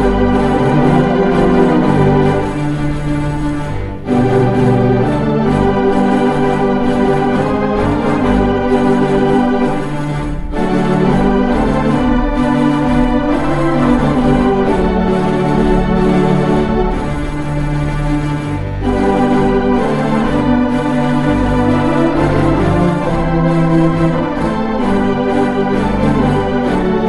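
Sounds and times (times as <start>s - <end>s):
pipe organ playing chords: 0.0s - 27.0s.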